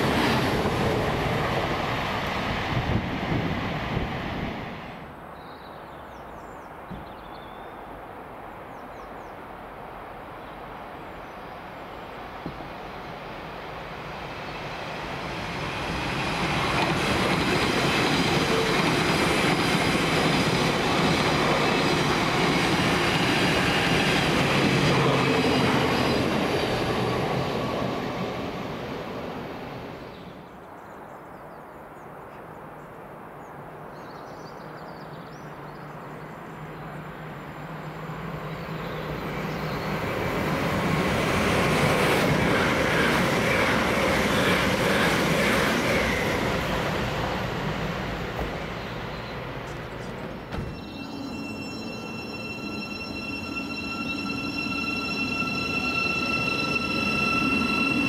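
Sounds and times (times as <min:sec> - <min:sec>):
train passing: 0:00.0 - 0:05.4, 0:07.8 - 0:30.7, 0:34.6 - 0:58.0.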